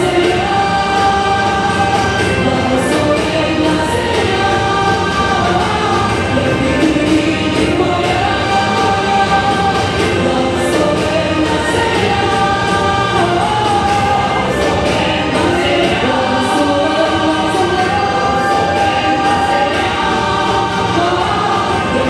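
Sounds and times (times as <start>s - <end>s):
singing in harmony: 0.0s - 22.0s.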